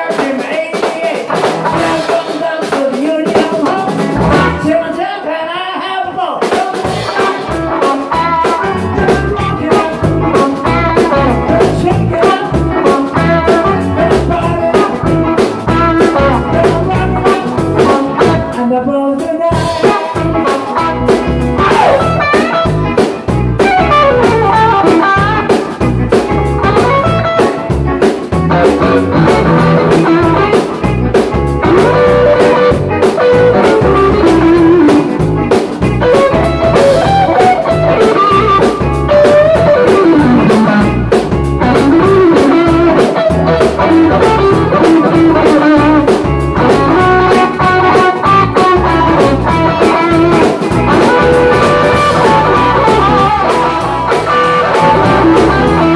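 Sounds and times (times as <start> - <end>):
drum-kit beat: 0.0 - 4.9, 6.3 - 18.6, 19.5 - 55.9
bass: 0.0 - 55.9
electric guitar lead: 1.2 - 5.9, 6.6 - 55.9.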